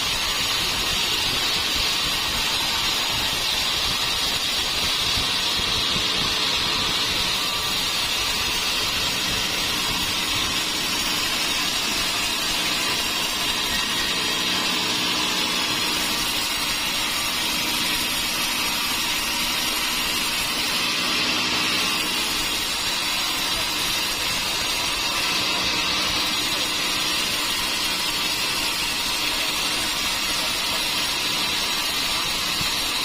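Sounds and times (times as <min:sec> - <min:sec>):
sawmill saw cutting wood: 0:00.0 - 0:33.0.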